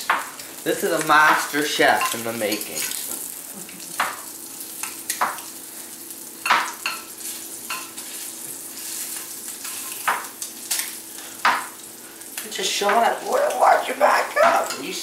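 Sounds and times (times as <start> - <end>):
fish fillets sizzling in a skillet: 0.0 - 15.0.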